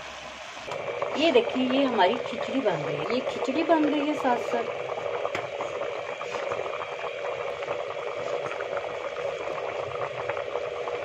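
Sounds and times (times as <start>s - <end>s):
faint steady hum: 0.0s - 11.0s
pot boiling with bubbling: 0.0s - 11.0s.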